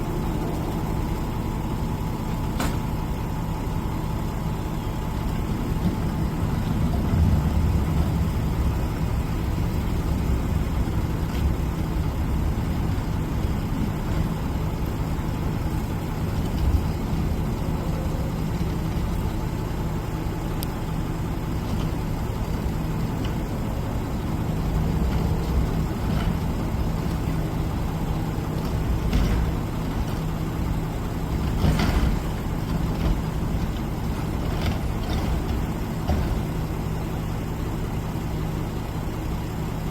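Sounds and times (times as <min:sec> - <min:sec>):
garbage truck diesel engine running: 0:00.0 - 0:39.9.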